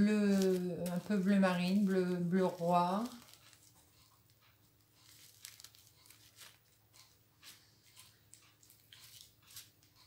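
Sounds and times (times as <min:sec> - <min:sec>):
plastic bags crinkling: 0:00.0 - 0:09.8
low room hum: 0:00.0 - 0:10.0.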